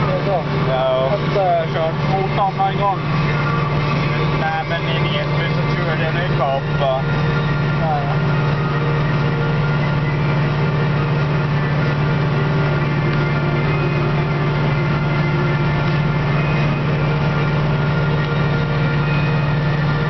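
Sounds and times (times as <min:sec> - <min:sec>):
tractor diesel engine drone: 0:00.0 - 0:20.0.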